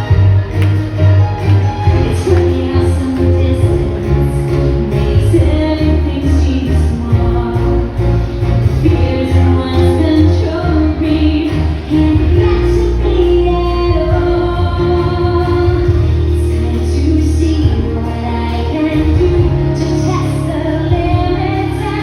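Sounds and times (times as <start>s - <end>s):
heavy bass line: 0.0s - 22.0s.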